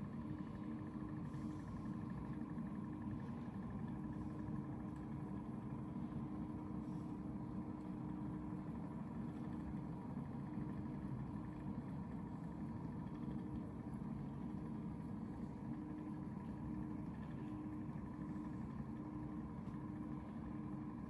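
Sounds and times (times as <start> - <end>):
faint constant tone: 0.0 - 21.0
low mechanical hum: 0.0 - 21.0.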